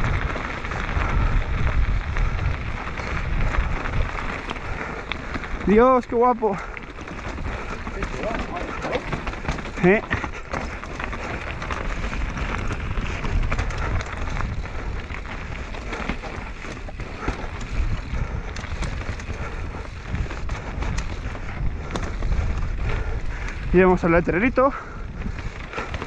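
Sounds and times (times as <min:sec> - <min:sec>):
knobby tyres rolling over gravel: 0:00.0 - 0:26.0.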